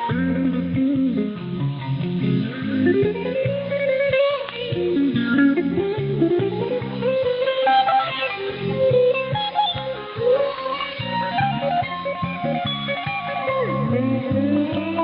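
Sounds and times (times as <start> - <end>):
music on shortwave radio: 0.0 - 15.0.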